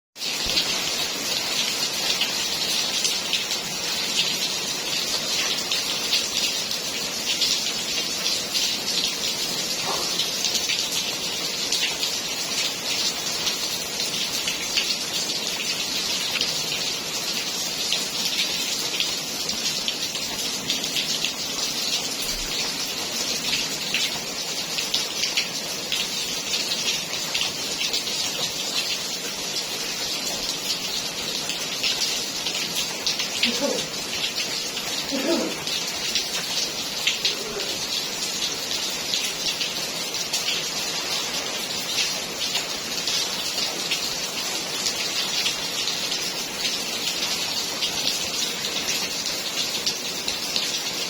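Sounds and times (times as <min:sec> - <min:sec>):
steady rain pattering: 0:00.2 - 0:51.0.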